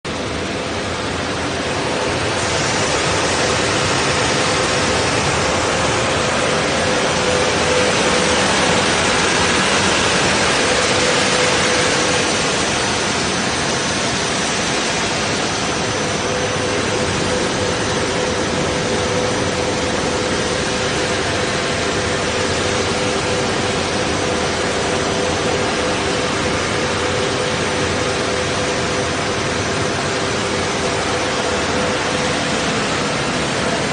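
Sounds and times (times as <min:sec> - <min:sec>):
sanding machine running: 0:00.1 - 0:33.9.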